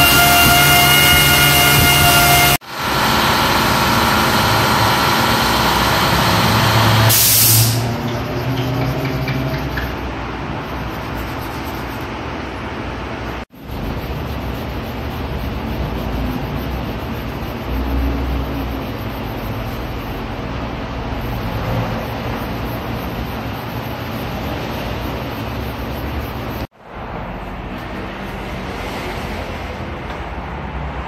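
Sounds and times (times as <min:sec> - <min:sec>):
workshop background rushing: 0:00.0 - 0:31.0.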